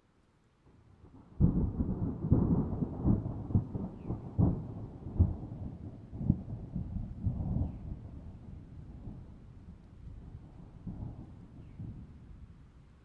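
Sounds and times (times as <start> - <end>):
thunder rumbling and crackling: 1.0 - 12.6.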